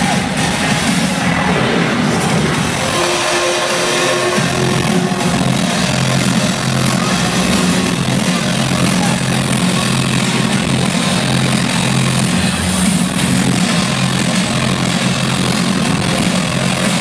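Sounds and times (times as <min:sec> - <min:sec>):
loud electronic dance music: 0:00.0 - 0:17.0.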